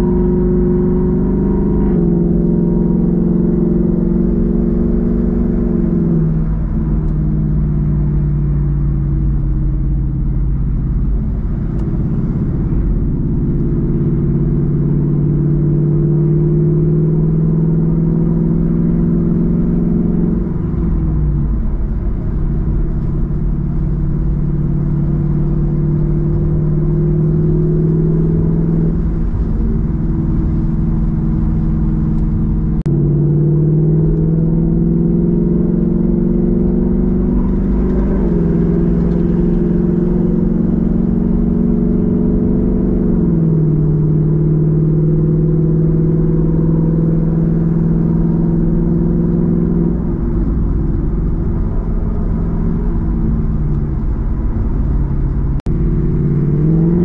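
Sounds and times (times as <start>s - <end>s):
car engine and exhaust drone: 0.0s - 57.0s
tyre and road rumble: 0.0s - 57.0s.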